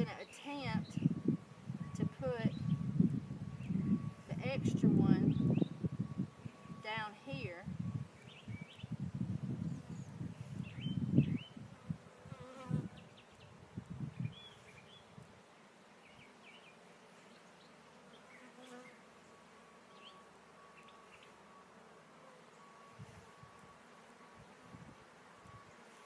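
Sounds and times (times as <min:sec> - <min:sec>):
honeybees humming: 0:00.0 - 0:13.4, 0:15.8 - 0:26.0.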